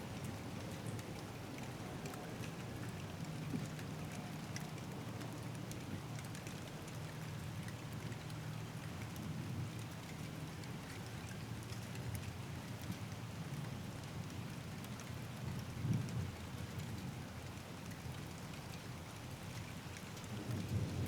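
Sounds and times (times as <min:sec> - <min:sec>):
raindrops ticking close by: 0:00.0 - 0:21.0
rain falling: 0:00.1 - 0:21.0.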